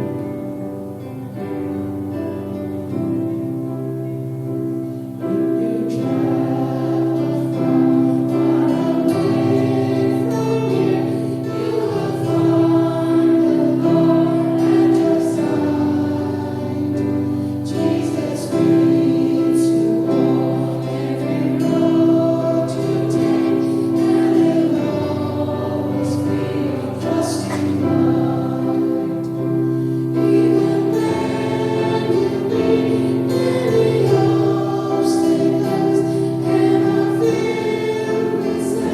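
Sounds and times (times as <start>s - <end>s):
choir singing a slow hymn: 0.0s - 38.9s.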